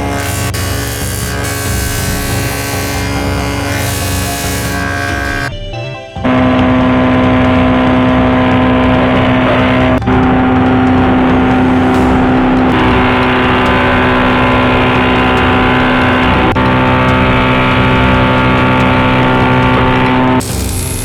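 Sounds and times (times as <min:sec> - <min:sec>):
electric motor humming: 0:00.0 - 0:05.5, 0:06.2 - 0:21.0.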